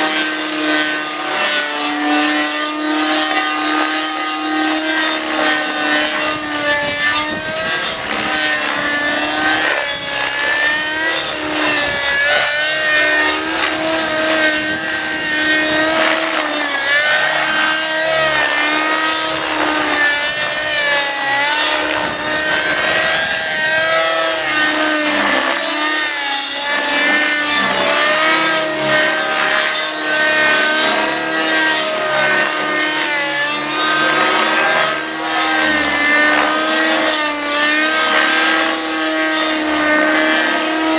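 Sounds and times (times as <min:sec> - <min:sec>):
model helicopter engine revving: 0:00.0 - 0:40.9.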